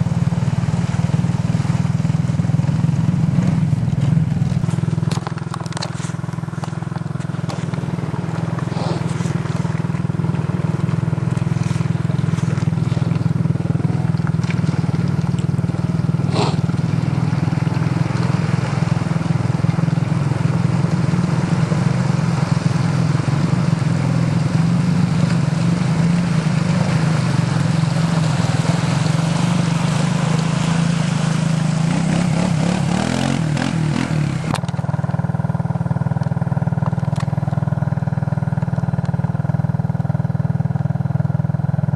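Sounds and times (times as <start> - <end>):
quad engine revving: 0.0 - 34.8
rushing through muddy water: 0.0 - 41.9.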